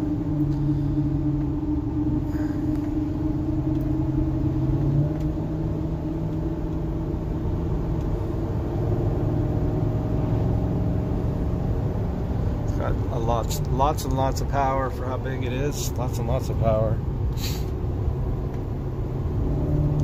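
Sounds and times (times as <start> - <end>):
engine hum inside cab: 0.0 - 20.0.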